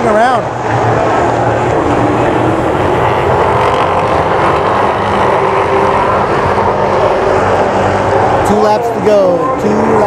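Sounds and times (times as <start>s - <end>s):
race car engines droning: 0.0s - 10.0s.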